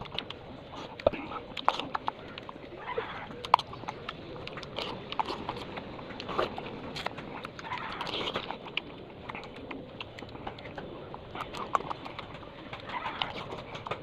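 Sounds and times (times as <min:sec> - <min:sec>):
mouth clicks and smacks: 0:00.0 - 0:14.0
person chewing: 0:00.0 - 0:14.0.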